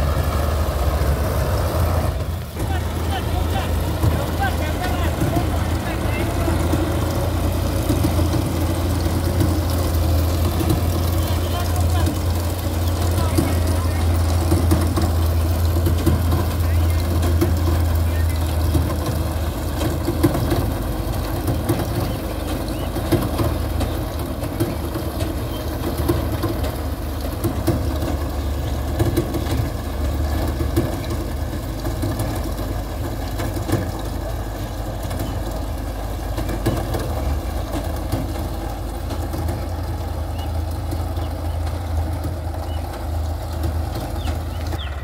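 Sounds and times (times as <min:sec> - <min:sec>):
combine harvester engine hum: 0:00.0 - 0:45.0.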